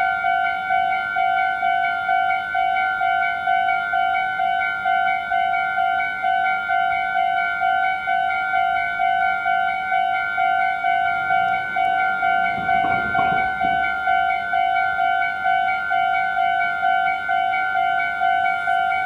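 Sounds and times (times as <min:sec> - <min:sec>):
level crossing alarm bell: 0:00.0 - 0:19.0.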